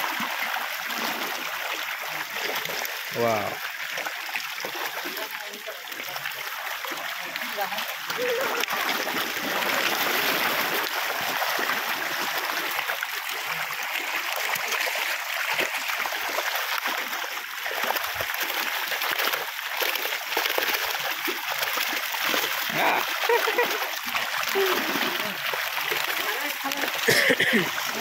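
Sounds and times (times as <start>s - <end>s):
fish splashing at water surface: 0.0s - 28.0s.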